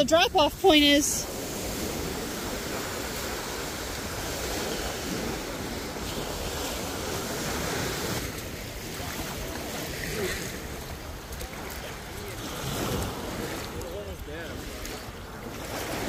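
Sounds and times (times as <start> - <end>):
waves breaking on sandy shore: 0.0 - 16.0.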